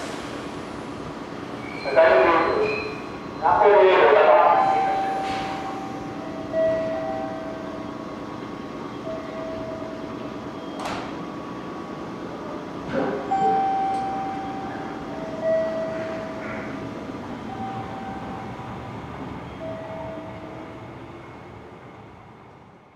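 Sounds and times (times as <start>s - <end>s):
train noise: 0.0s - 22.9s.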